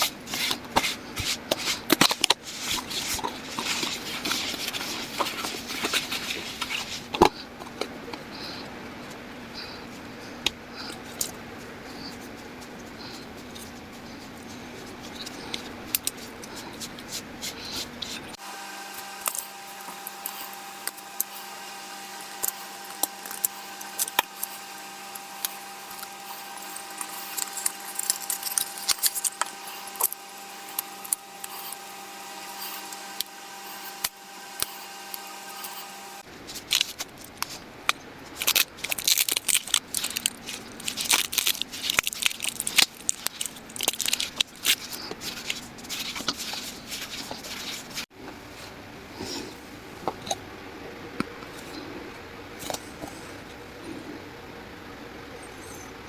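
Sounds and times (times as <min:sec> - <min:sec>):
steady multi-tone hum: 0:00.0 - 0:56.0.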